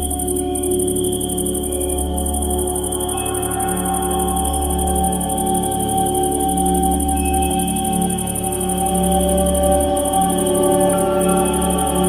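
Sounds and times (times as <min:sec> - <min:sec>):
ambient music with held tones: 0:00.0 - 0:12.0
cricket trill: 0:00.0 - 0:12.0.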